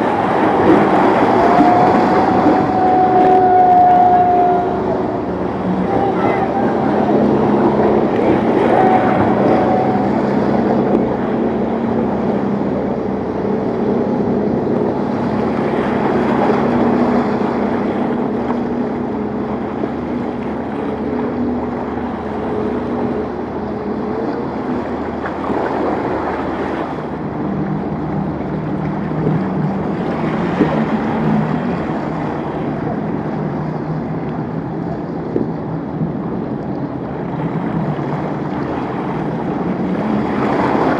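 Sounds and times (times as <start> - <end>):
motorboat engines running: 0.0 - 40.9
surf washing: 0.0 - 40.9
waves: 0.0 - 40.9
wind on microphone: 0.0 - 40.9.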